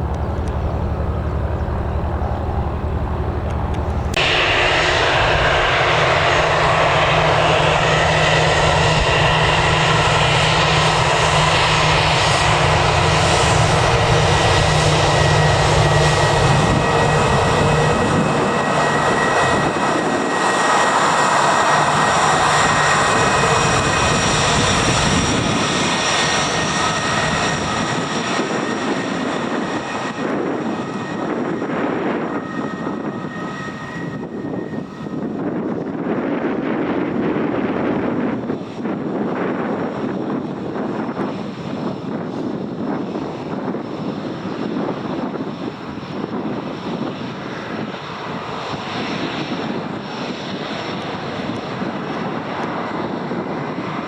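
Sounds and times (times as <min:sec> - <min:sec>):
aircraft engines passing: 0:00.0 - 0:54.0.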